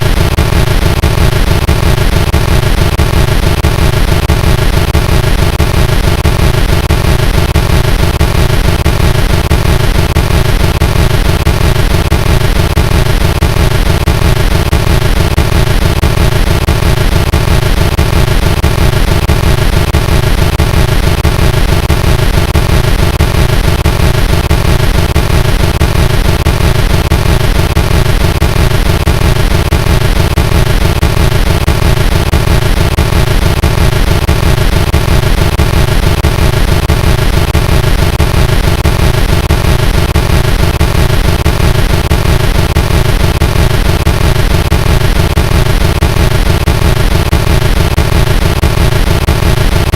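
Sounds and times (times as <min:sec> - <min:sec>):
harsh distorted noise: 0:00.0 - 0:49.9.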